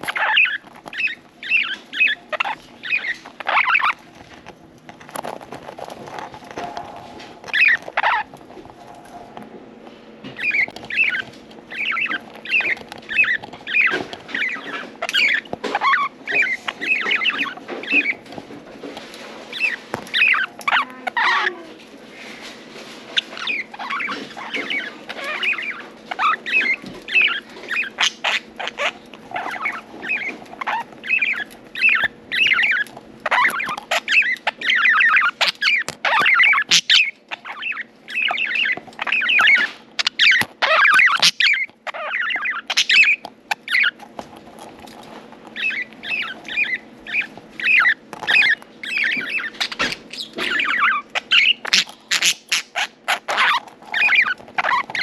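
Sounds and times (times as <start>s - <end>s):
budgerigars chirping and warbling: 0.0s - 4.4s, 5.1s - 9.2s, 10.2s - 55.0s.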